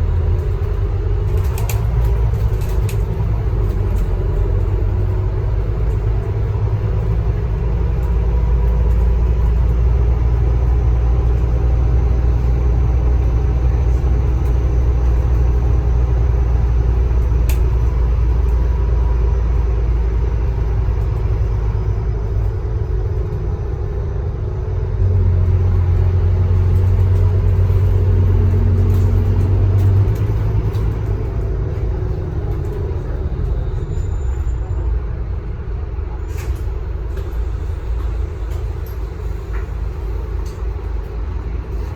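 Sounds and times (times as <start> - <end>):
bus engine droning: 0.0 - 41.9.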